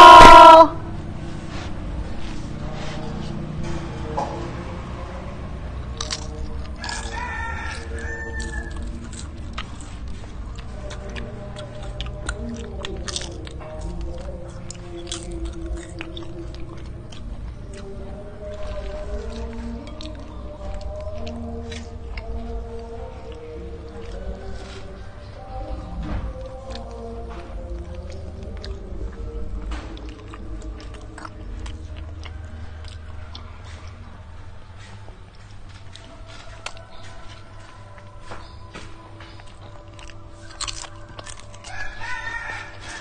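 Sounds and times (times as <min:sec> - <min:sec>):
chewing crisp potato chips: 0:04.4 - 0:43.0.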